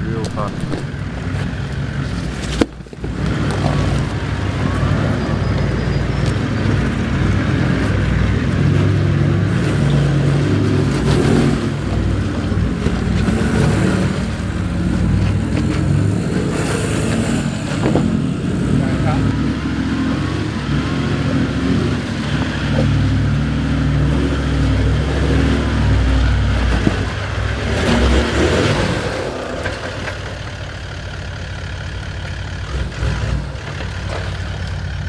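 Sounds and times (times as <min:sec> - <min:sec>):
vehicle engine at low revs: 0:00.0 - 0:35.0.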